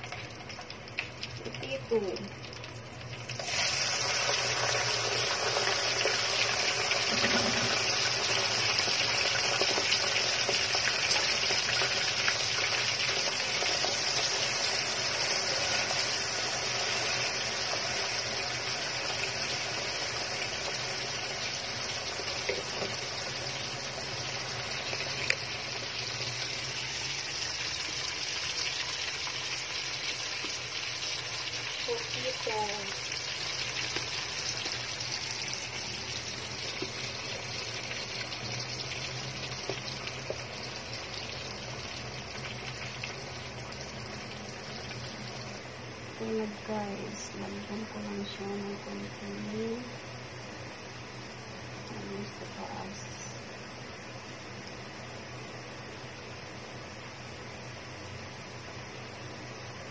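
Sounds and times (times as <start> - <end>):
hot oil sizzling: 0.0 - 59.9.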